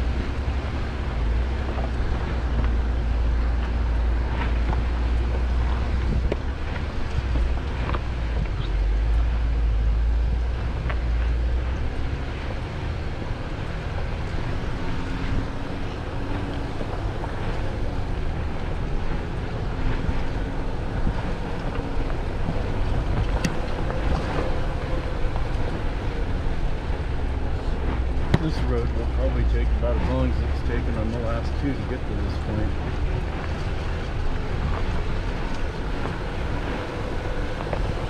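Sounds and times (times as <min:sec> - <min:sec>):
low rumble: 0:00.0 - 0:38.0
wind on microphone: 0:00.0 - 0:38.0.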